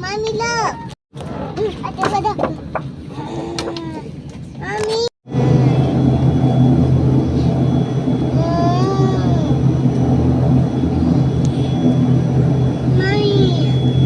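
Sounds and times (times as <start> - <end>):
airliner cabin drone: 0.0 - 14.0.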